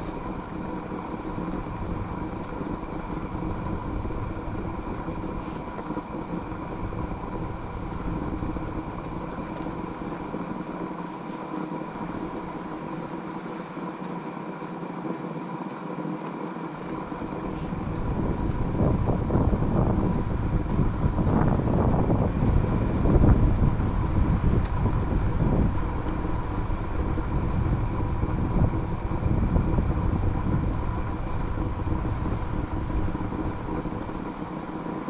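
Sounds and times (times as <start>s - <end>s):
wind rumbling on microphone: 0.0s - 14.1s, 16.7s - 35.0s
faint steady hum: 0.0s - 35.0s.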